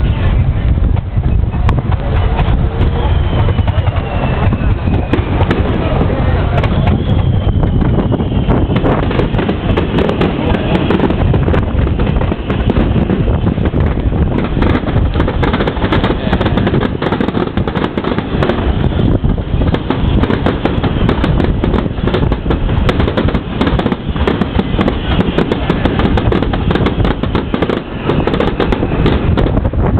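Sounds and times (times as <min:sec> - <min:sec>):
fireworks bursting and crackling: 0:00.0 - 0:29.9
heavy low rumble: 0:00.0 - 0:29.9.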